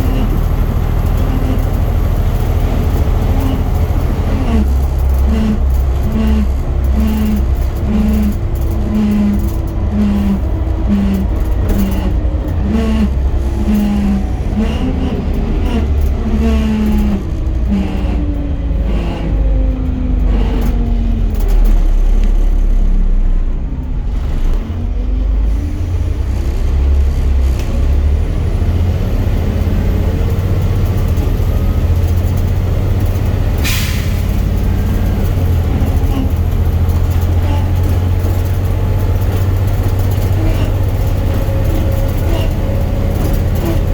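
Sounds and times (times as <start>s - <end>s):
axle whine: 0.0s - 43.9s
bus engine rumble: 0.0s - 43.9s.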